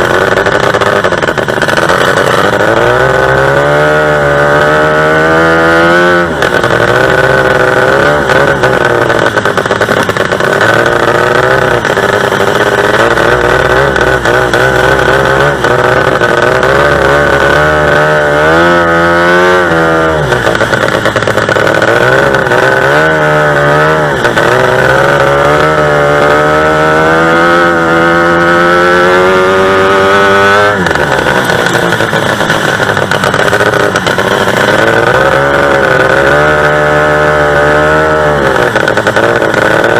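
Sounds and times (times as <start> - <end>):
racing boat engine revving: 0.0 - 39.9.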